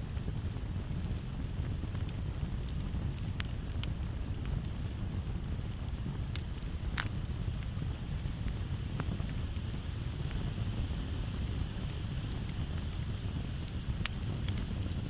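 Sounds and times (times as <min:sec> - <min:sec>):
campfire crackling and popping: 0:00.0 - 0:15.0
crickets trilling: 0:00.1 - 0:15.0.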